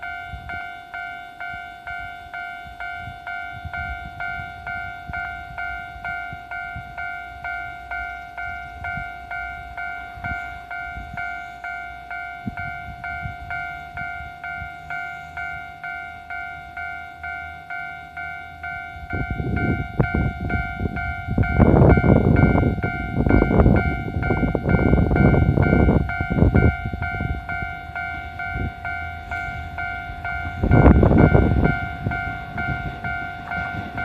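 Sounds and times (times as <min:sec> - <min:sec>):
diesel railcar rumble: 0:00.0 - 0:34.0
level-crossing warning bell: 0:00.0 - 0:34.0.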